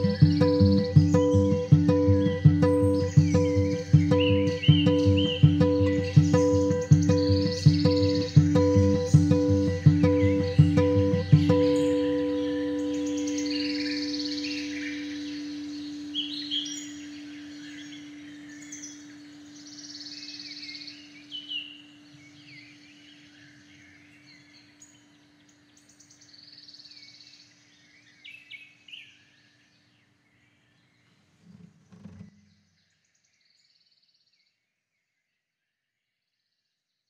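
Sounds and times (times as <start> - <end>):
birds chirping: 0.0 - 34.2.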